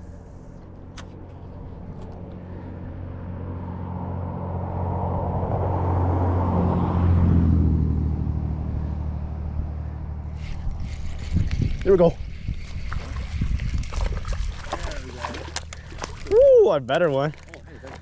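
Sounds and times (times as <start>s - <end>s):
vehicle engine hum and road noise: 0.0s - 18.0s.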